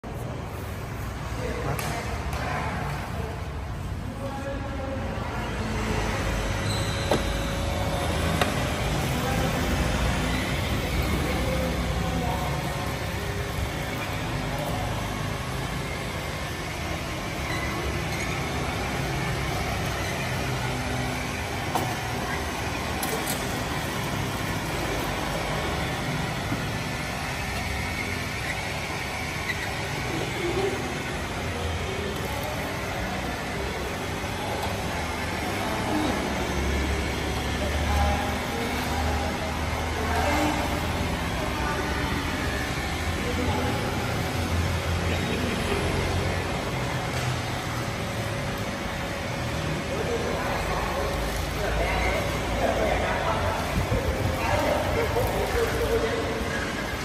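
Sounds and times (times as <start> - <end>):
vacuum cleaner running: 4.1 - 57.0.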